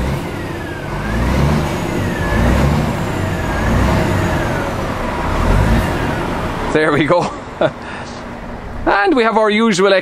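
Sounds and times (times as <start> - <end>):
diesel engine revving: 0.0 - 8.6.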